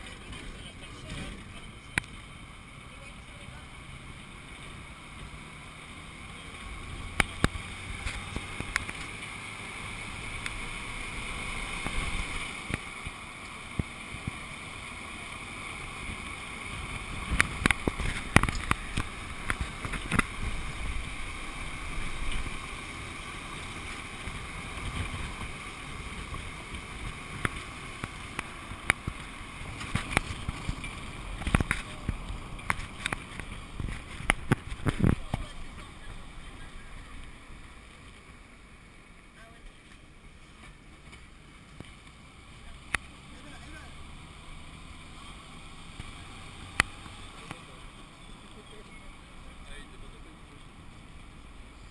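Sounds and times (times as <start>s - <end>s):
road and engine noise: 0.0s - 51.9s.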